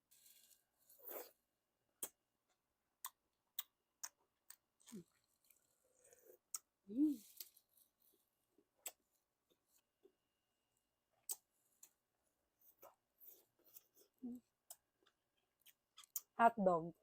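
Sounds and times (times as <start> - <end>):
soft chewing: 0.1 - 1.4, 2.0 - 16.4.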